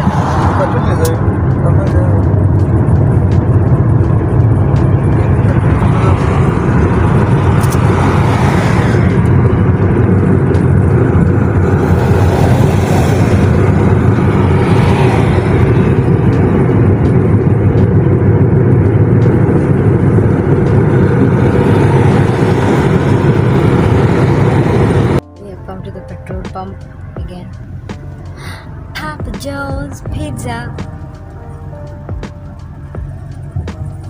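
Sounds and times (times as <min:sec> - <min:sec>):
road and wind noise inside car: 0:00.0 - 0:34.0.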